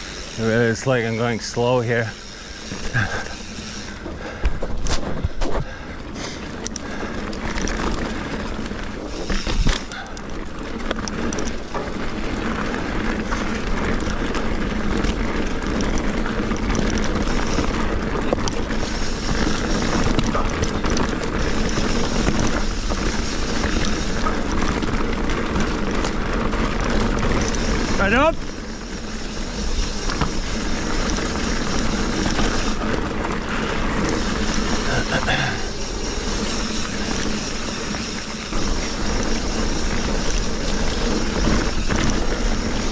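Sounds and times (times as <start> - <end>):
bike tyres rolling on dirt: 0.0 - 42.9.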